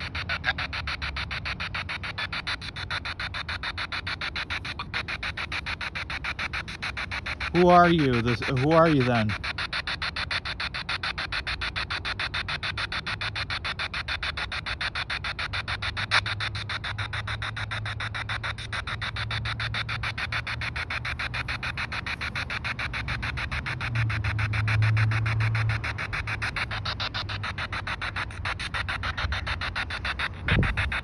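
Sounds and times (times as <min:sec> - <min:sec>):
choppy radio static: 0:00.0 - 0:12.8, 0:14.6 - 0:31.0.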